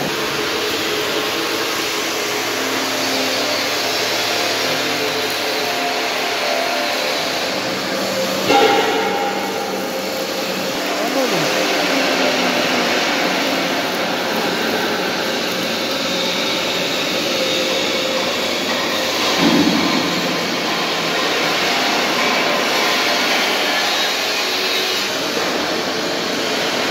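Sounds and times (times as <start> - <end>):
steady machinery noise: 0.0 - 26.9.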